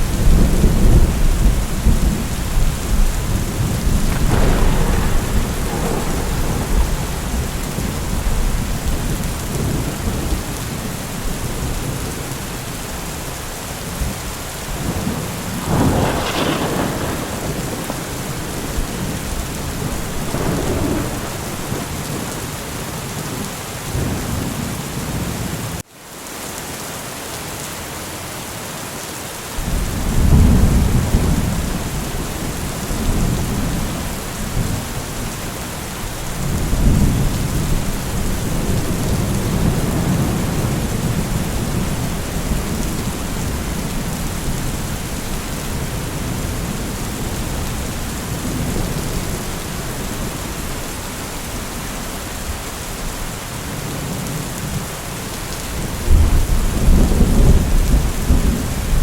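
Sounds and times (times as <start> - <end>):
thunder rumbling: 0.0 - 25.4, 29.6 - 59.0
heavy rain: 0.0 - 59.0.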